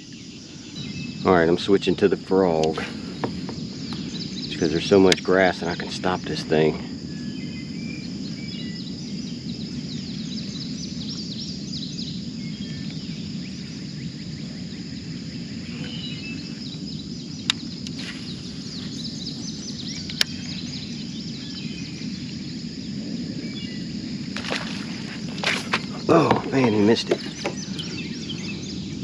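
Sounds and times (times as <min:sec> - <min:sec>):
bird chirps: 0:00.0 - 0:29.0
insect drone: 0:00.0 - 0:29.0.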